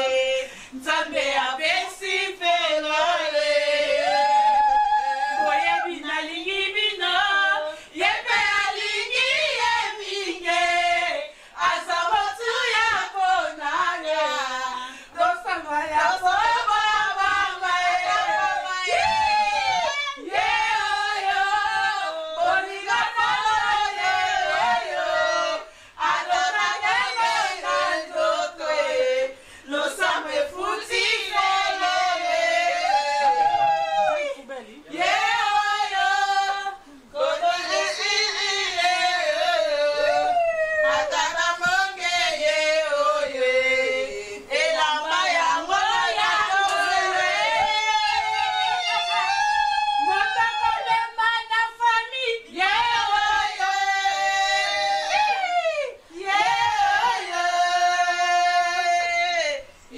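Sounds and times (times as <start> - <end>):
women singing without instruments: 0.0 - 59.9.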